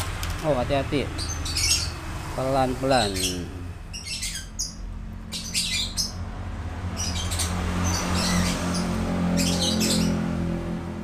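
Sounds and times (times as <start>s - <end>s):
bird chirping: 0.5s - 2.1s, 2.9s - 10.4s.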